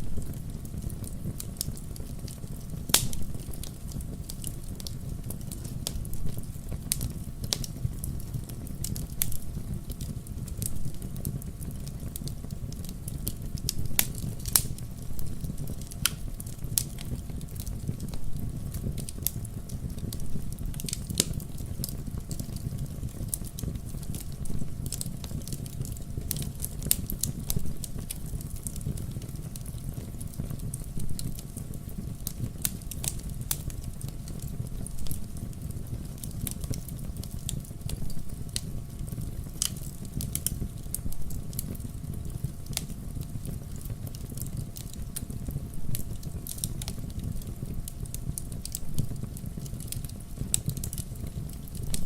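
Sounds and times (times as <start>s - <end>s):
burning wood crackling: 0.0s - 52.0s
low rumble of flames: 0.0s - 52.0s.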